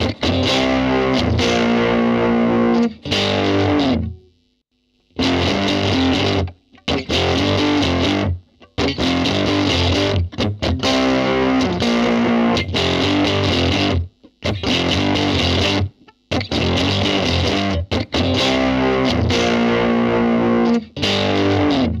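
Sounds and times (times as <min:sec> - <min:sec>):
overdriven electric guitar chords: 0:00.0 - 0:22.0.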